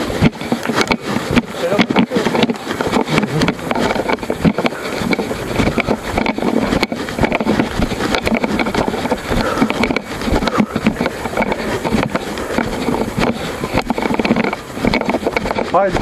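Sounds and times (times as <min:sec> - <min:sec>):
camera rattling in mount: 0:00.0 - 0:16.0
wind rushing over microphone: 0:00.0 - 0:16.0.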